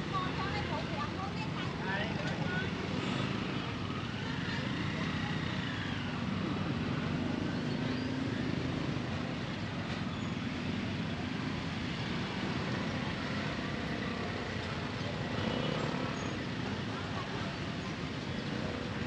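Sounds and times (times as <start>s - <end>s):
small motorbike engines running: 0.0s - 19.0s
street noise: 0.0s - 19.0s.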